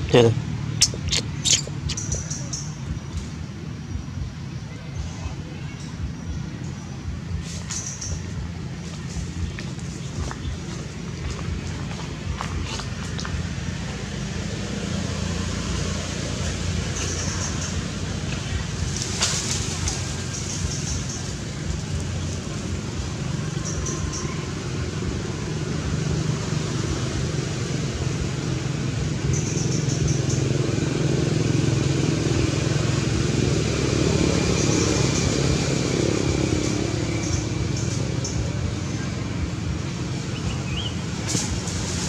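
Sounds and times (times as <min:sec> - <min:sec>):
engine rumble: 0:00.0 - 0:42.0
road traffic noise: 0:00.0 - 0:42.0.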